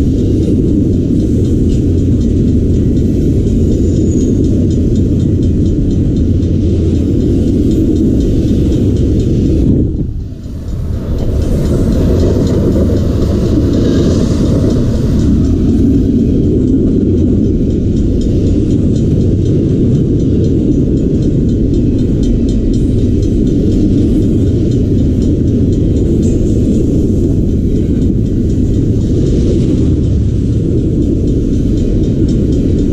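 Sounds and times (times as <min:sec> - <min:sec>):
freight train rumbling past: 0:00.0 - 0:32.9
wheels clicking over rails: 0:00.0 - 0:32.9.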